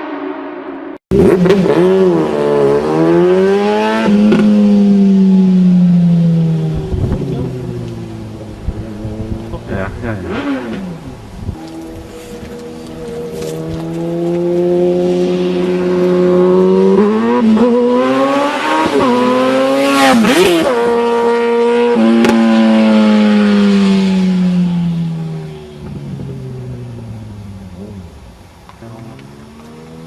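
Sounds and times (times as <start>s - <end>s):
engine revving high: 0.0s - 25.5s.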